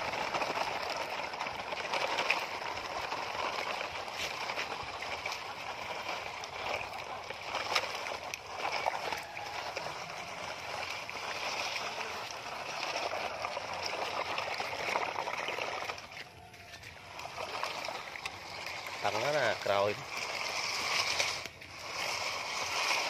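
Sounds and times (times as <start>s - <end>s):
stream water sloshing: 0.0s - 23.0s.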